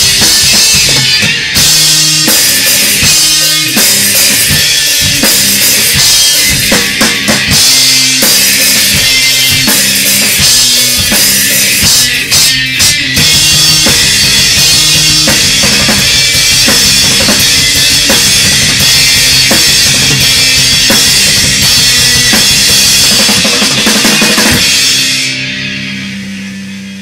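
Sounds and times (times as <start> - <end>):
bass guitar: 0.0 - 27.0
drum kit with cymbals: 0.0 - 27.0.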